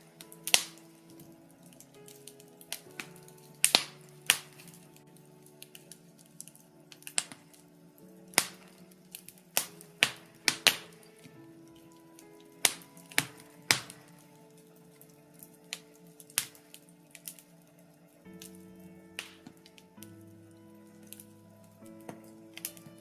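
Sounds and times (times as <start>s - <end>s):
soft background music: 0.0s - 23.0s
wood fire crackling and popping: 0.0s - 23.0s.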